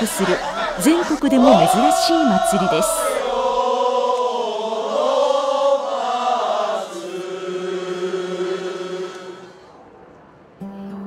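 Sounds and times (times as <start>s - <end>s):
men chanting in unison: 0.0s - 9.7s.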